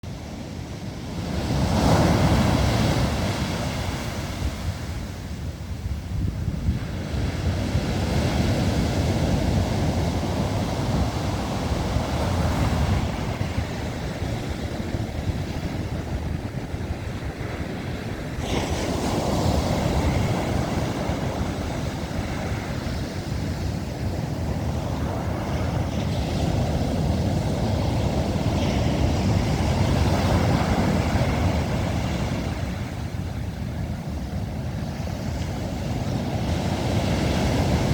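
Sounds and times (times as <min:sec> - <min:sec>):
sea waves breaking: 0:00.1 - 0:06.0, 0:06.7 - 0:37.9
wind buffeting microphone: 0:00.1 - 0:37.9.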